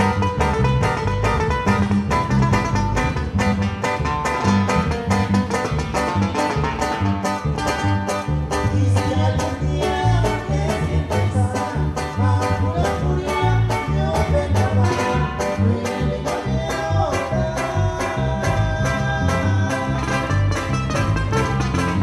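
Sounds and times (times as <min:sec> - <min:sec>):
bass and drum beat: 0:00.0 - 0:22.0
live band dance music: 0:00.0 - 0:22.0
plucked guitar lines: 0:00.0 - 0:22.0.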